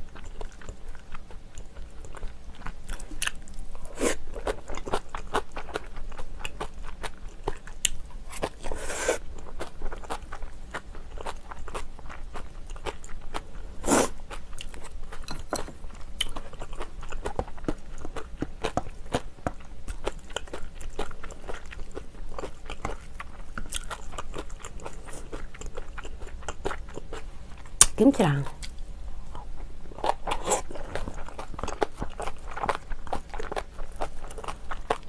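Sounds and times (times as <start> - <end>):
person chewing and crunching food: 0.0 - 35.0.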